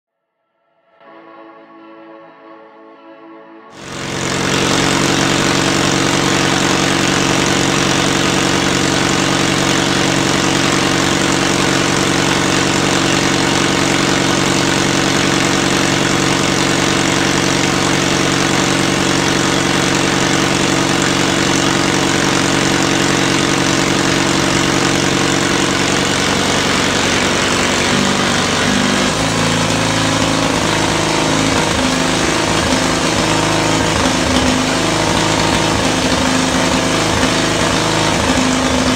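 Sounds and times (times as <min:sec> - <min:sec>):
crawler tractor engine running: 0:03.8 - 0:38.9.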